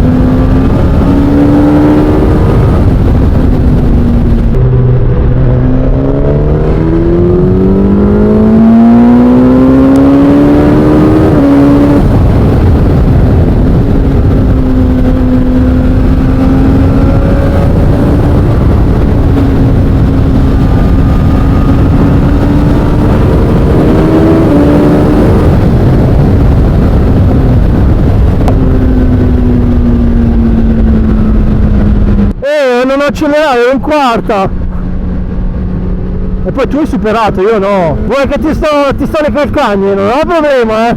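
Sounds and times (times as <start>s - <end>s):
motorcycle engine revving: 0.0s - 32.4s, 34.5s - 40.9s
wind rushing on microphone: 0.0s - 40.9s.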